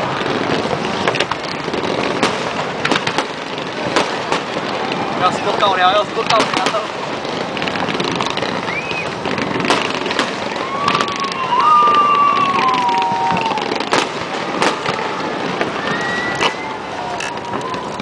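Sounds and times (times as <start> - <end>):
firework bangs: 0.0 - 18.0
firework crackling: 0.0 - 18.0.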